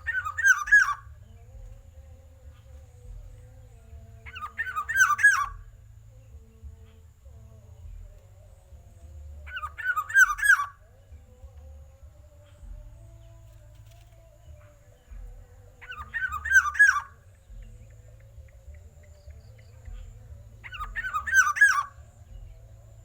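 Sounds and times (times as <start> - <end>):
bird calling slurred notes: 0.0 - 6.2, 7.9 - 14.0, 14.6 - 23.0.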